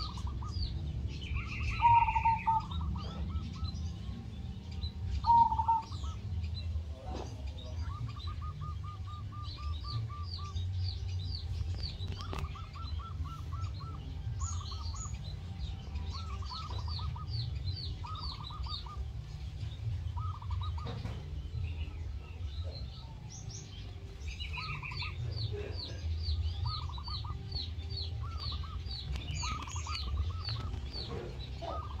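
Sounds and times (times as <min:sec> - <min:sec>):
doves cooing: 0:00.0 - 0:32.0
small birds chirping: 0:00.0 - 0:32.0.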